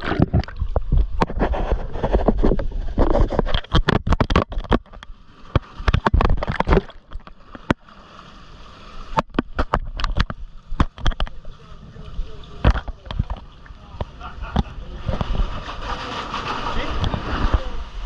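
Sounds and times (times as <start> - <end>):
water splashing against boat: 0.0 - 18.0.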